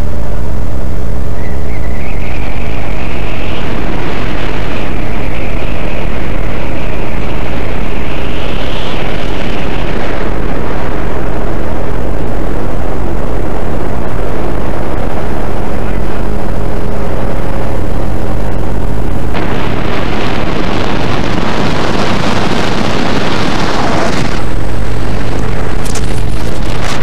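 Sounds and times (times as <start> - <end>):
high whine rising in pitch: 0.0 - 27.0
jet boat engine roaring: 2.0 - 27.0.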